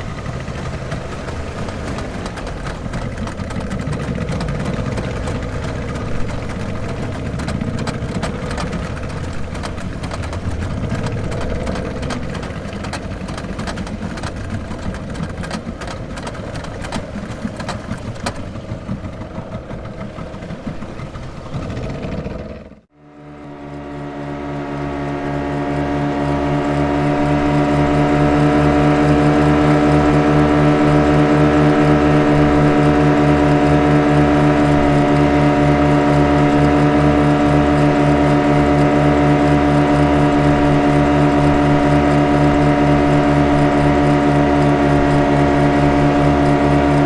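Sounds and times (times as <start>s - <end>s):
motorboat engine rumbling: 0.0s - 47.0s
smooth engine hum: 0.0s - 47.0s.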